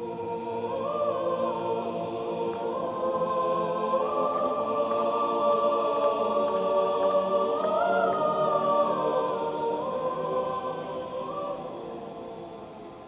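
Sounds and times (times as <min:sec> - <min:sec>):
choir holding long chords: 0:00.0 - 0:13.0.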